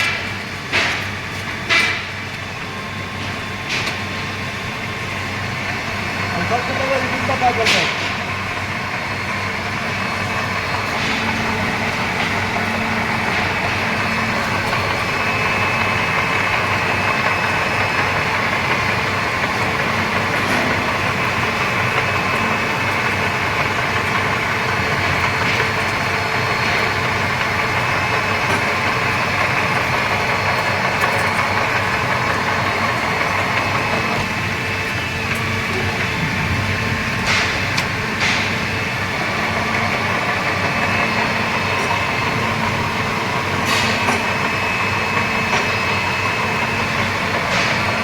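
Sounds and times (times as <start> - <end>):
drilling machine hum: 0.0 - 48.0.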